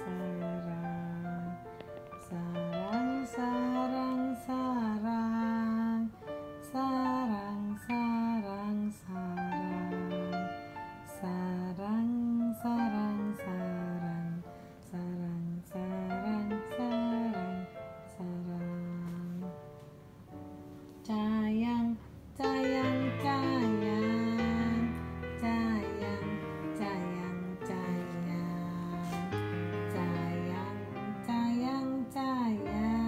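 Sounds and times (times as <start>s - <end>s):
slow melody of sliding notes: 0.0s - 33.0s.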